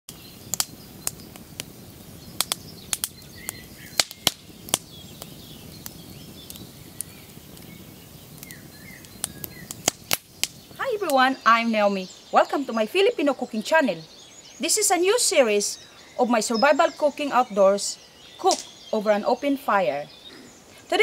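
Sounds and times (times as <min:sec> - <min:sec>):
low rush of fire: 0:00.1 - 0:21.0
wood fire crackling: 0:00.1 - 0:21.0.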